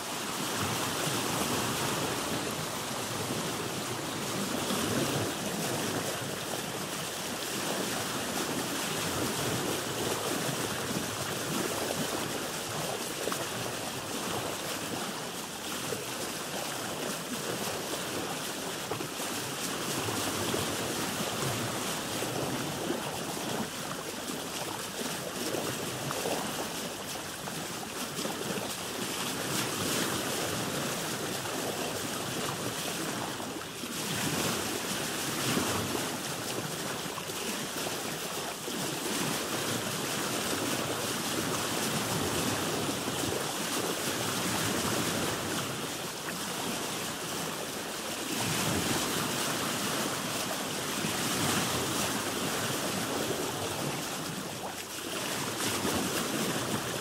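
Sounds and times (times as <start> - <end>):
ocean waves splashing: 0.0 - 57.0.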